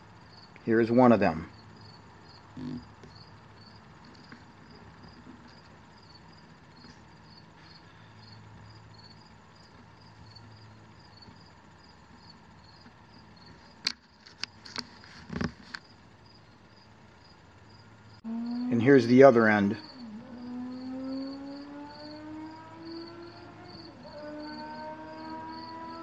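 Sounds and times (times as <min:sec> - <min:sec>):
faint low hum: 0:00.0 - 0:26.0
insect chirping: 0:00.0 - 0:26.0.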